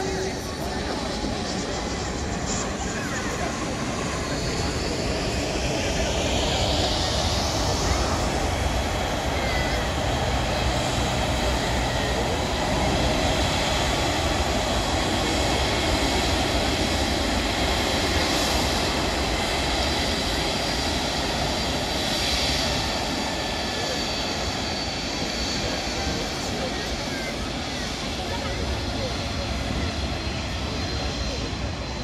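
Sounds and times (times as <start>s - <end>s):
high jet engine whine: 0.0s - 32.0s
jet engine rumble: 0.0s - 32.0s.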